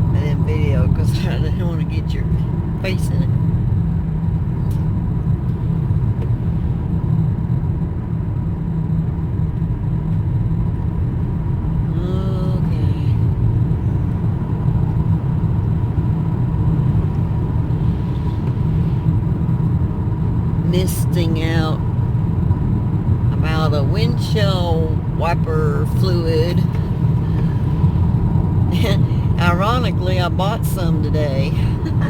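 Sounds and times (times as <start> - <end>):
car cabin road noise: 0.0 - 32.0.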